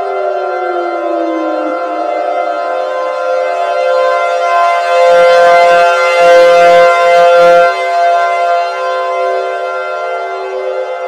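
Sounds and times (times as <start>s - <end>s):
civil defense sirens: 0.0s - 11.0s.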